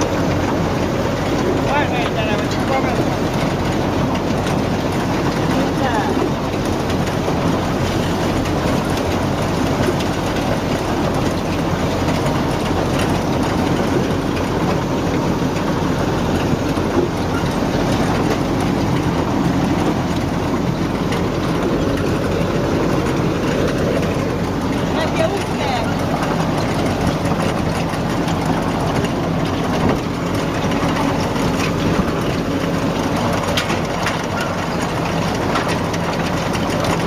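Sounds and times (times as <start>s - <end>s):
heavy machine engine running: 0.0s - 37.0s.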